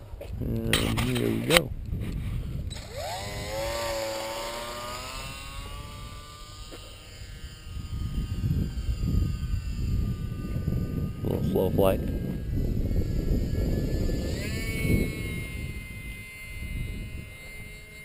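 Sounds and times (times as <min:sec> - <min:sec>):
electric motor and propeller whine: 0:00.0 - 0:18.0
wind rumble on microphone: 0:00.0 - 0:18.0.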